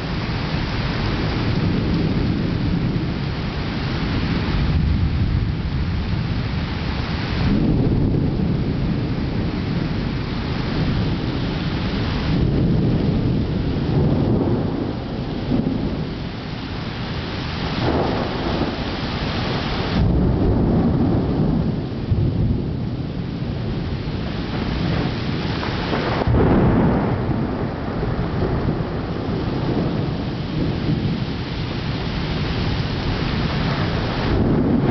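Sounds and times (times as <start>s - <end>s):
heavy rain falling: 0.0s - 34.9s
thunder rolling: 0.0s - 34.9s.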